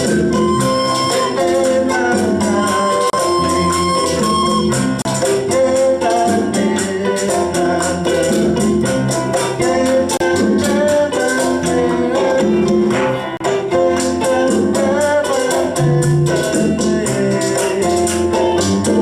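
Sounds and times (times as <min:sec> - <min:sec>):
latin band playing: 0:00.0 - 0:19.0.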